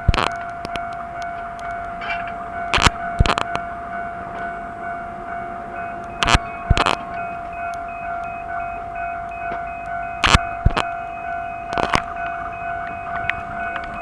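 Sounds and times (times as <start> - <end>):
level crossing alarm ringing: 0.0 - 14.0
sharp metallic clanks: 0.0 - 14.0.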